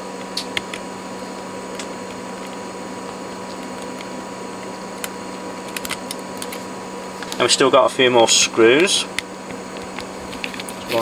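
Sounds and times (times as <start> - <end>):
workbench hum and hiss: 0.0 - 11.0.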